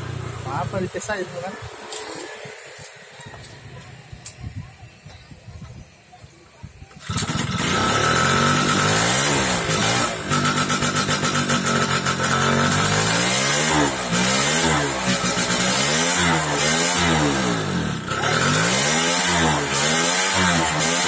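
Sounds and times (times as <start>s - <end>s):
two-stroke engine revving: 0.0s - 4.2s, 6.9s - 21.0s.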